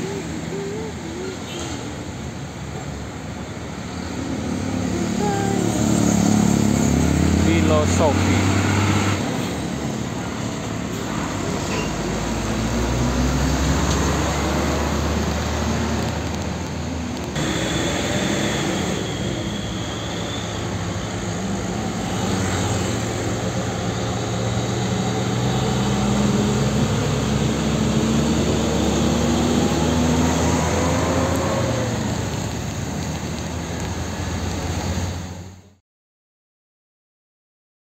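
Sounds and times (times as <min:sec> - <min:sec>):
diesel truck engines running: 0:00.0 - 0:35.7.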